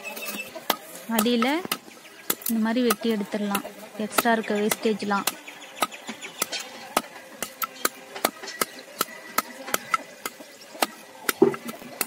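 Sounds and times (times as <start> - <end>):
knife chopping bamboo on wood: 0.6 - 12.0.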